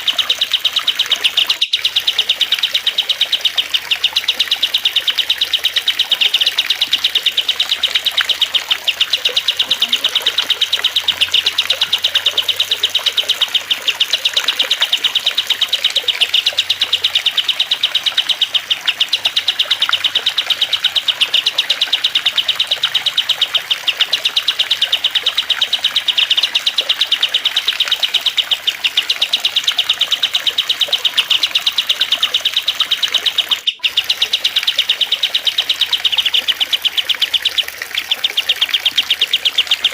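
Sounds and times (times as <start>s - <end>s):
birds chirping and trilling: 0.0s - 39.9s
trickling water: 0.0s - 39.9s.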